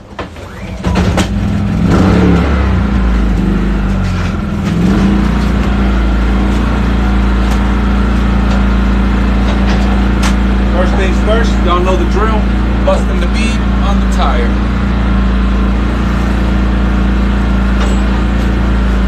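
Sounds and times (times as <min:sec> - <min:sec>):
engine starting and running: 0:00.0 - 0:19.0.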